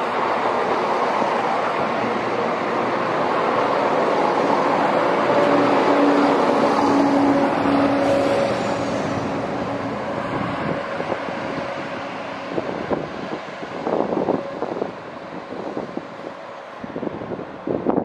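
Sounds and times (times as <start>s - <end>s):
diesel train engines humming: 0.0s - 18.0s
train running noise: 0.0s - 18.0s.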